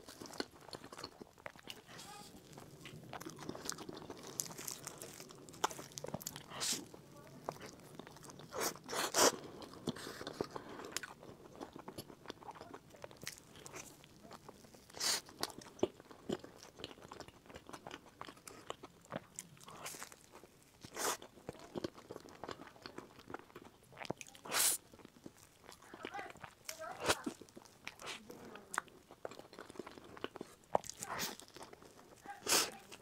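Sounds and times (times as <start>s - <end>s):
chewing crispy fritter: 0.0s - 33.0s.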